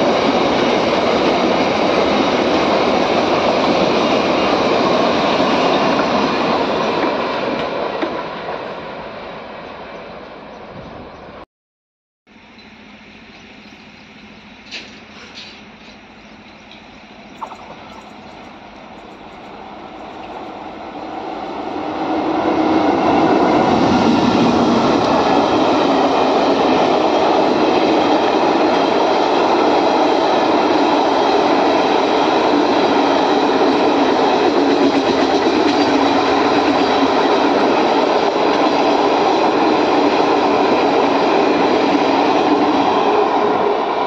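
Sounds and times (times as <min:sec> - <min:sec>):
train wheels on rails: 0:00.0 - 0:11.4, 0:12.3 - 0:44.0.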